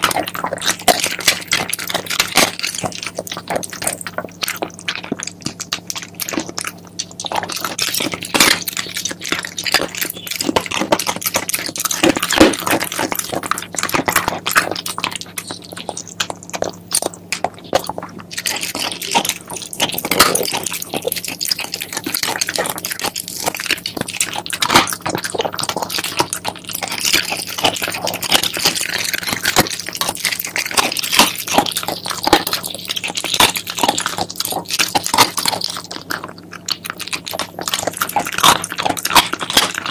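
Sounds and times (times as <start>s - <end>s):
dog chewing and crunching bones: 0.0s - 39.9s.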